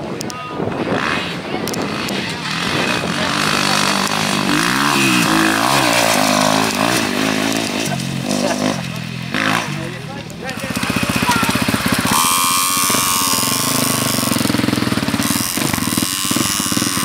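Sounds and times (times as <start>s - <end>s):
dirt bike engine revving: 0.6s - 17.0s.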